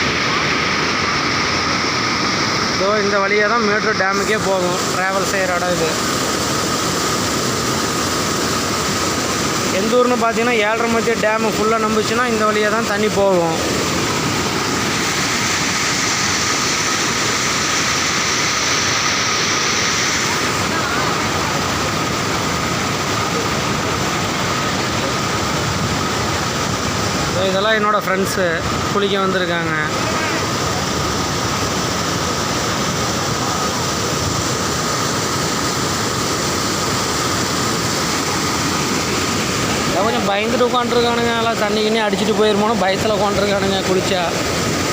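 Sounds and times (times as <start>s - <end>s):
water rushing over waterfall: 0.0s - 44.9s.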